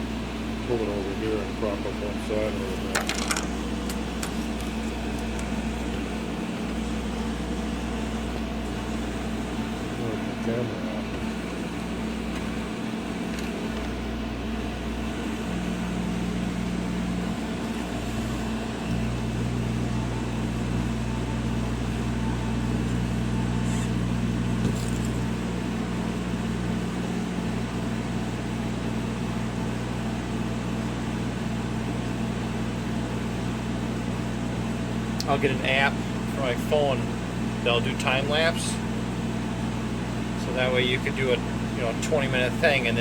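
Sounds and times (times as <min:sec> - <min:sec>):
laser etching machine hum: 0:00.0 - 0:43.0.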